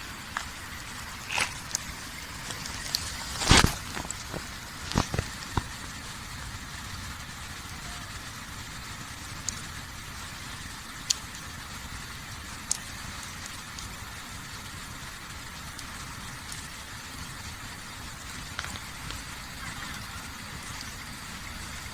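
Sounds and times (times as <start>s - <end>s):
campfire crackling and popping: 0.0s - 21.9s
low background rumble and hiss: 0.0s - 21.9s.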